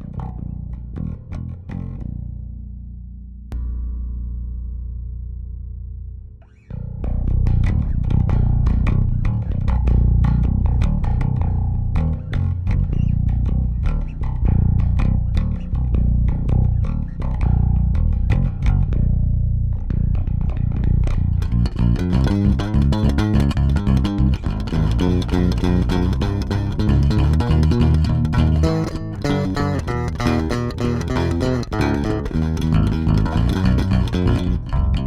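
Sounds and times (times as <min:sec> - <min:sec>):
electric bass notes: 0:00.0 - 0:35.0.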